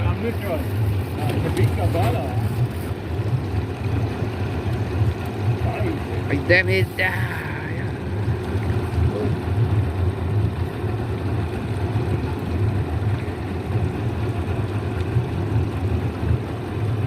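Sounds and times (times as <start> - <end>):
motorboat engine idling: 0.0 - 17.0.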